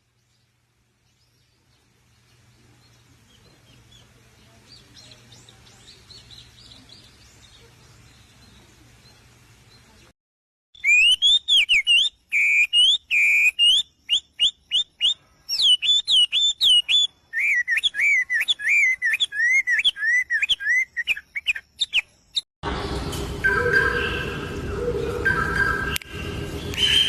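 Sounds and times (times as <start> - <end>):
songbird singing: 0.0 - 10.1, 10.8 - 22.4, 23.4 - 27.0.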